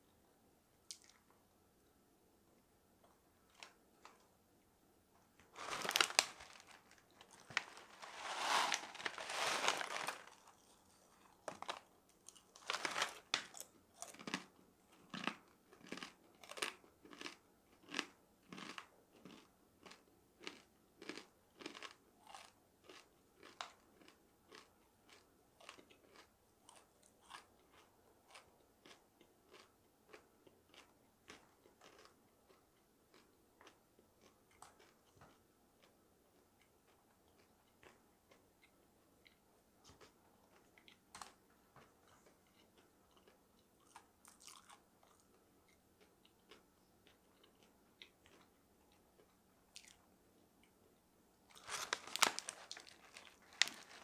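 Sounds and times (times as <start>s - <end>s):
person crunching and chewing food: 5.5s - 50.1s, 51.5s - 54.0s.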